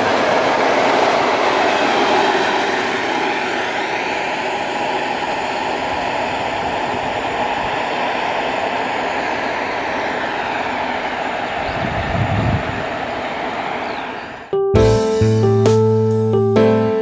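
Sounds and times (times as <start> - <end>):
train wheels rushing on rail: 0.0 - 14.5.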